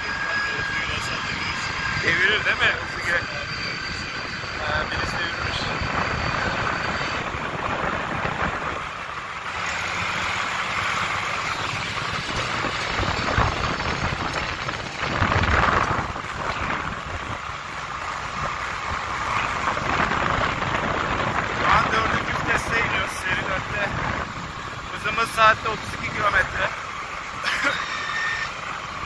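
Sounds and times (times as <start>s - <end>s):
wind noise: 0.0s - 26.7s
tractor diesel engine running: 0.0s - 29.0s.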